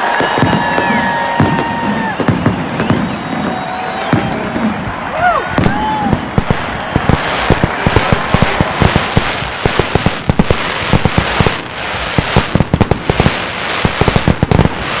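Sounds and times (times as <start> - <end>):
fireworks popping and banging: 0.0 - 15.0.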